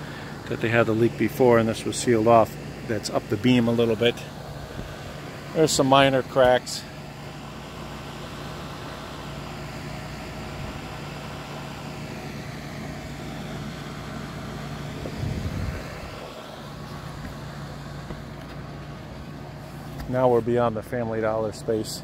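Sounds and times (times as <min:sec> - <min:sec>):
hvac equipment hum: 0:00.0 - 0:22.0.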